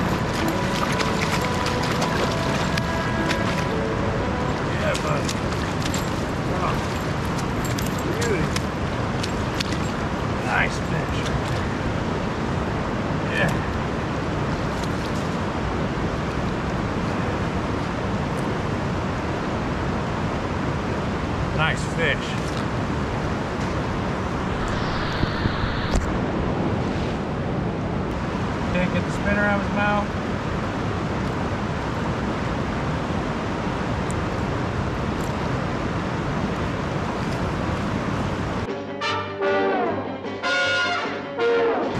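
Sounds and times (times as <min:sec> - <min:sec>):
river rushing over rocks: 0:00.0 - 0:38.7.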